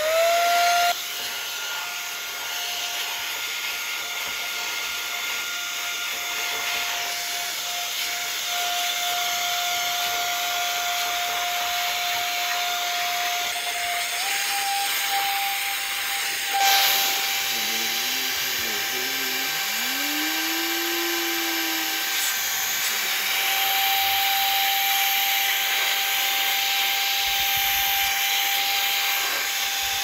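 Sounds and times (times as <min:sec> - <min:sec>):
electric air duster whine: 0:00.0 - 0:30.0.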